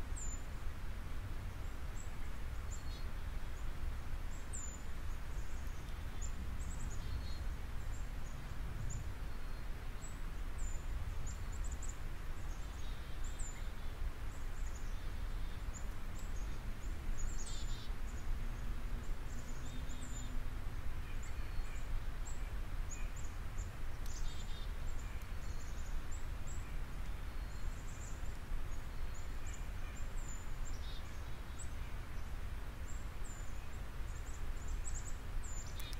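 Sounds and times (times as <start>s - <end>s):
faint bird chirps: 4.3s - 18.3s, 21.0s - 35.9s.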